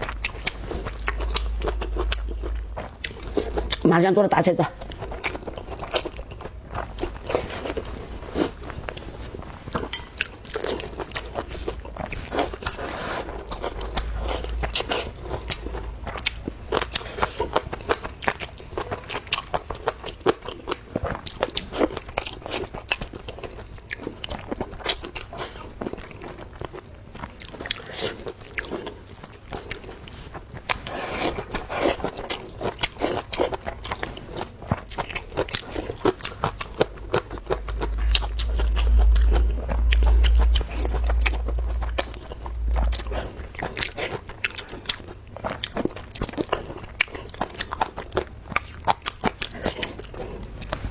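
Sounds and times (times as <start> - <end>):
person chewing food: 0.0 - 3.9, 4.8 - 50.9.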